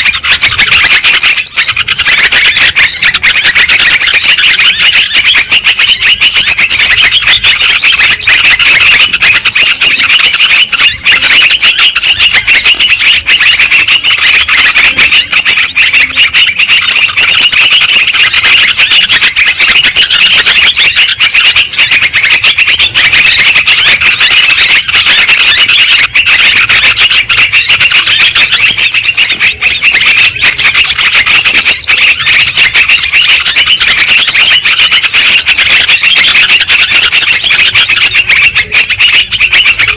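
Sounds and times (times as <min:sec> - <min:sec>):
chorus of bird chattering calls: 0:00.0 - 0:39.9.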